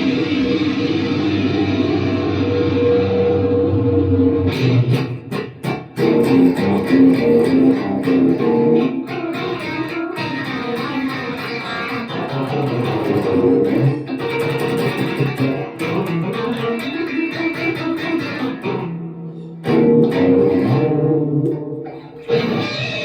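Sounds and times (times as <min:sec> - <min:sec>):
plucked guitar notes: 0:00.0 - 0:23.0.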